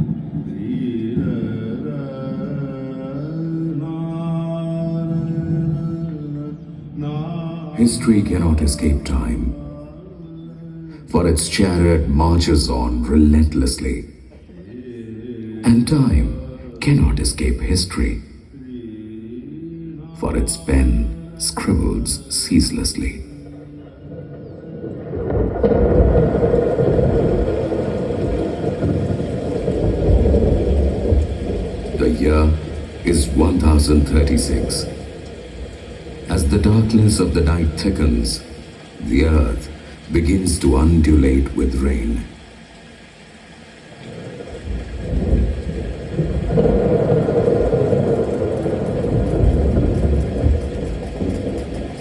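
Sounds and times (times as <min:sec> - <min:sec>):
rain: 0:00.0 - 0:18.6, 0:20.2 - 0:52.0
loud deep rumble: 0:00.0 - 0:52.0.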